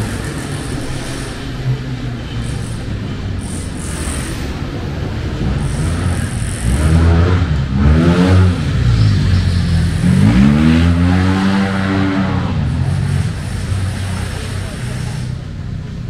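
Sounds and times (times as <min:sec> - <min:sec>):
vehicle engine accelerating: 0:00.0 - 0:15.8
background traffic hum: 0:00.0 - 0:16.0.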